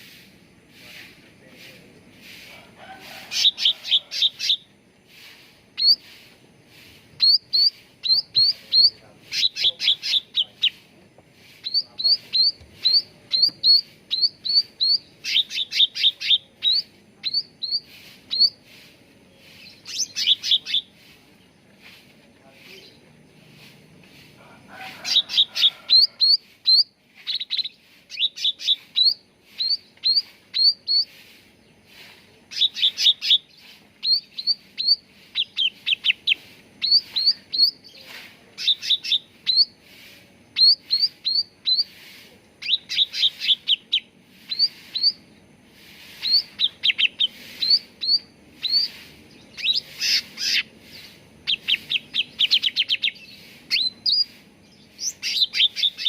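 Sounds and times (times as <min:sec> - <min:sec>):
bird chirping: 0:03.3 - 0:24.2, 0:25.1 - 0:56.0.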